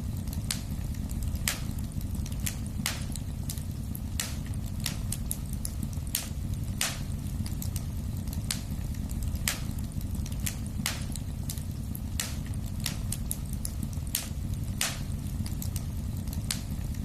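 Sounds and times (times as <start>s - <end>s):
low rumble of flames: 0.0s - 17.0s
sharp pops of fire: 0.0s - 17.0s
wood fire crackling: 0.0s - 17.0s.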